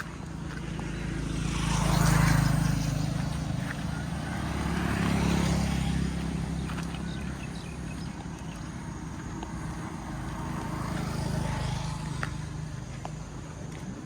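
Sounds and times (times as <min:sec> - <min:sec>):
vehicles passing by: 0:00.0 - 0:14.0.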